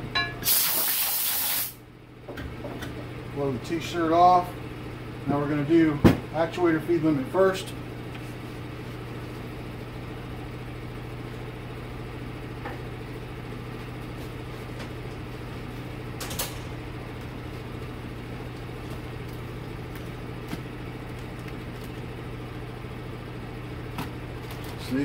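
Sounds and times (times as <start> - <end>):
workshop machinery hum: 0.0 - 25.0.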